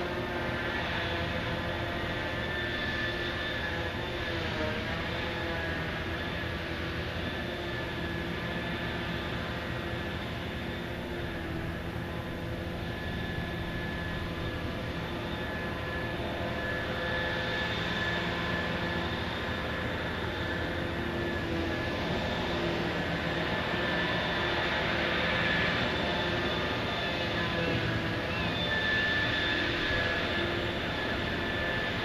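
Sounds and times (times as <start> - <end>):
hydraulic whine: 0.0 - 32.0.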